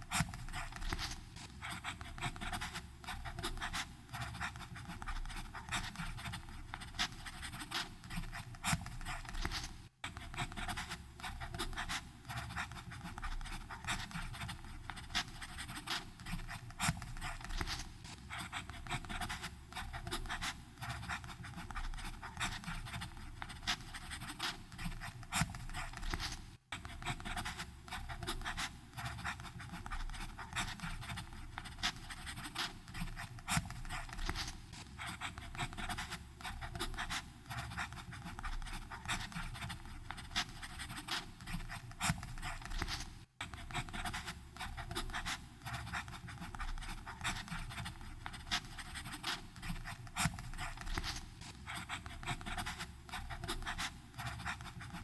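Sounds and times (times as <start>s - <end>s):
pen nib scratching on paper: 0.0s - 55.0s.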